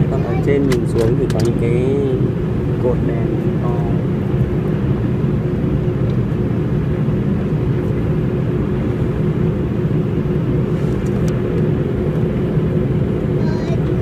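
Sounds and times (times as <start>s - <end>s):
faint constant hum: 0.0s - 14.0s
jet engines rumbling: 0.0s - 14.0s.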